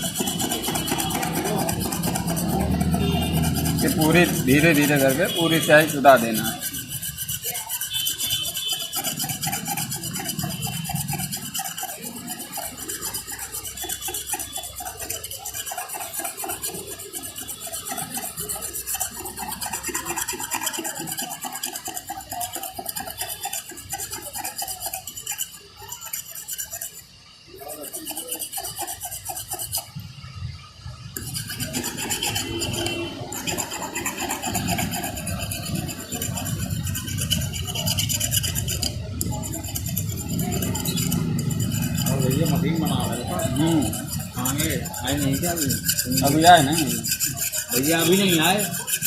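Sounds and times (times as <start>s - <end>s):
blade scraping hardened ink: 0.0s - 49.0s.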